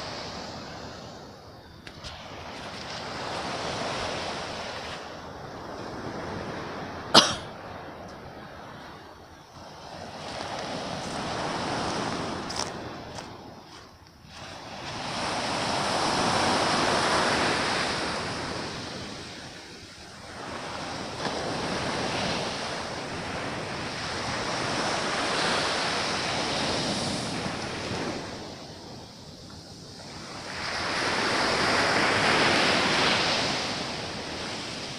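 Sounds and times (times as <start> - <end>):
sea waves breaking: 0.0 - 34.9.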